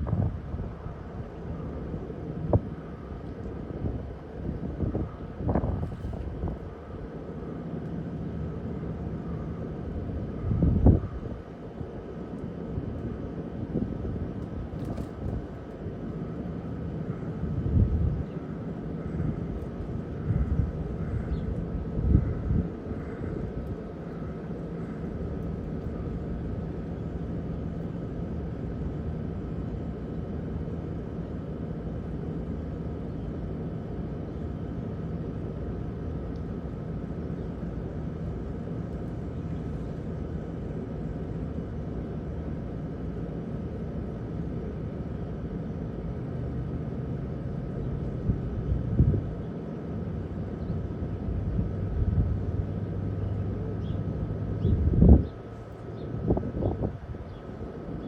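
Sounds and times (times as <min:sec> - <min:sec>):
low mechanical hum and rumble: 0:00.0 - 0:58.0.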